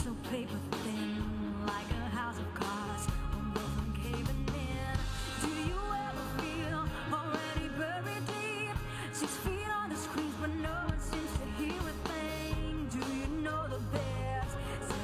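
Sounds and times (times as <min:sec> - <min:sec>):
band with drums and keyboard: 0:00.0 - 0:15.0
woman singing into microphone: 0:00.0 - 0:15.0.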